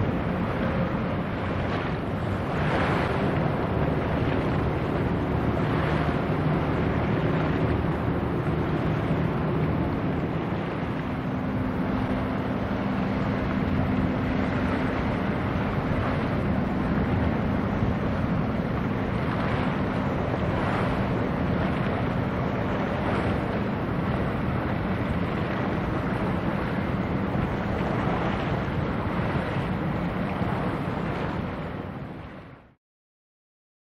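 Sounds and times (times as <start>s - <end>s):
wind buffeting microphone: 0.0s - 32.7s
choppy sea waves: 0.0s - 32.8s
ship engine drone: 0.0s - 32.8s.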